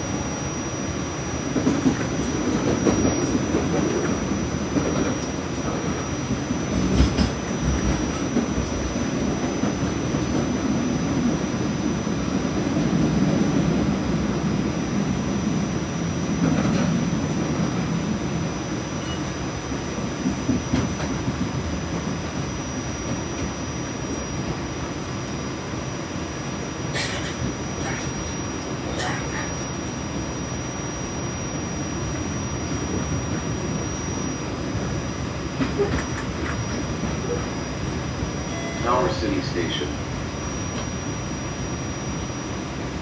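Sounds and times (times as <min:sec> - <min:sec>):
high whine: 0:00.0 - 0:43.0
train wheels rumbling on track: 0:01.0 - 0:25.4, 0:26.3 - 0:30.2, 0:31.5 - 0:41.0.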